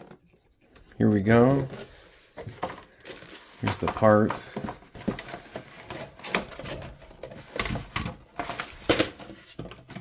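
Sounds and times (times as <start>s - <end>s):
plastic packaging crinkling: 1.2s - 9.5s.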